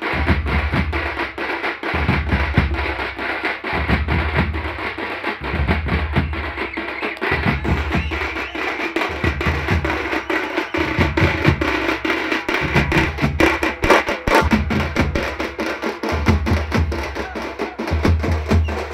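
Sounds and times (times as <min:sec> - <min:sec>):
drummers beating large drums: 0:00.0 - 0:18.9.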